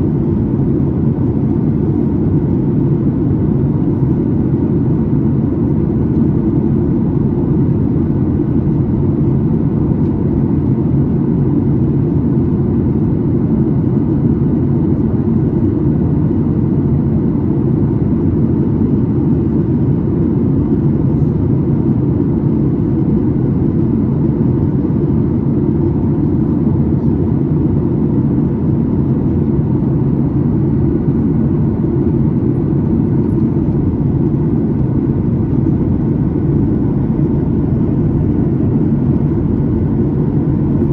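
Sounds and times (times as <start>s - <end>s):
faint steady hum: 0.0s - 40.9s
low rumble of airflow and engines: 0.0s - 40.9s.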